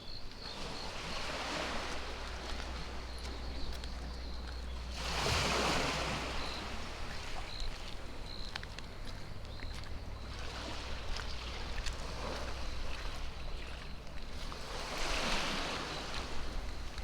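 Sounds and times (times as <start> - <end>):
small waves washing on shore: 0.0 - 17.0
boat engine humming: 1.4 - 15.1.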